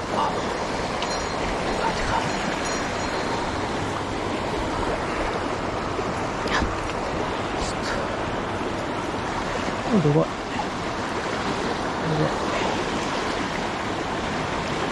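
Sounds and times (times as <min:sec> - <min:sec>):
stream water rushing: 0:00.0 - 0:14.9.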